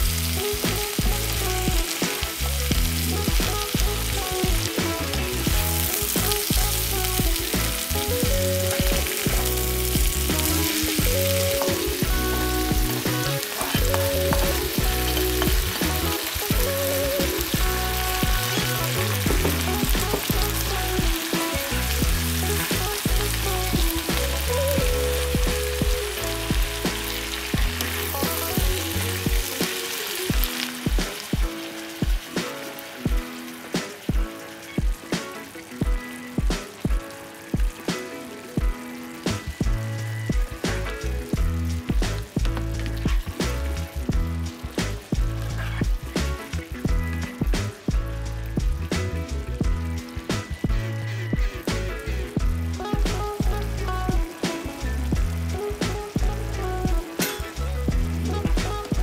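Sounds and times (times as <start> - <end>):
vegetables sizzling in frying pan: 0.0 - 59.0.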